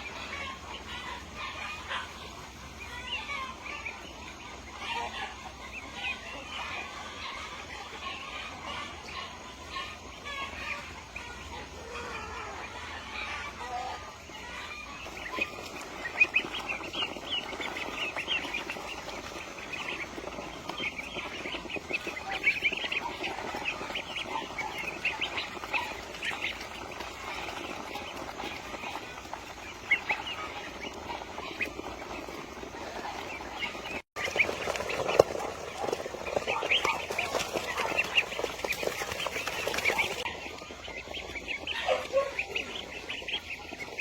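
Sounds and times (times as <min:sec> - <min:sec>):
chickens chirping: 0:00.0 - 0:44.0
chickens clucking: 0:00.0 - 0:44.0.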